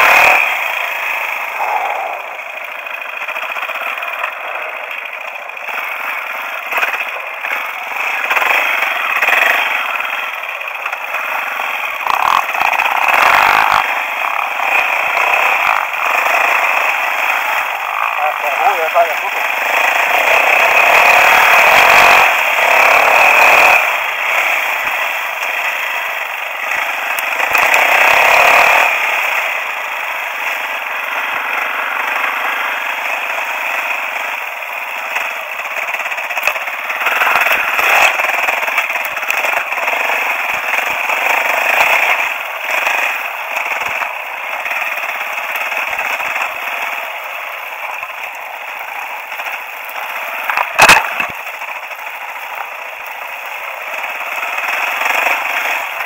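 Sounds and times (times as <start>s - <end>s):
motorcycle engine running at speed: 0.0s - 56.0s.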